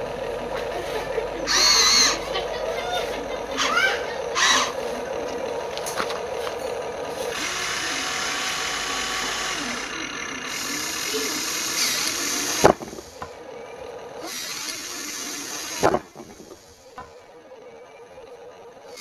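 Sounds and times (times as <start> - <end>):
small electric motors whirring: 0.6 - 19.0.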